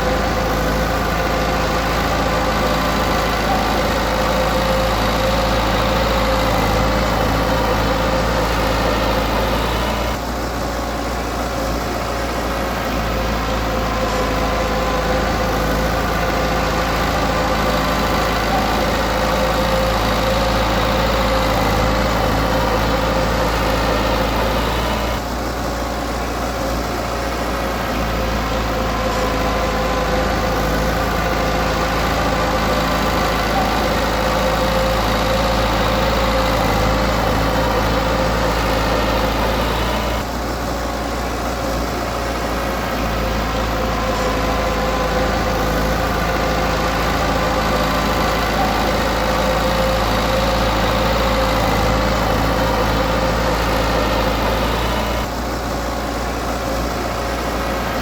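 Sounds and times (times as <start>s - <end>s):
earthmoving diesel engine running: 0.0s - 58.0s.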